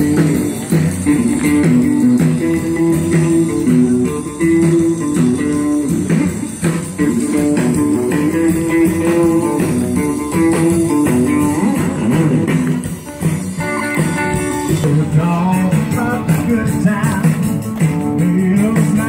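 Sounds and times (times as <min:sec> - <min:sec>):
person singing: 0:00.0 - 0:06.4, 0:07.0 - 0:12.9, 0:13.6 - 0:19.0
blues band with guitar: 0:00.0 - 0:19.0.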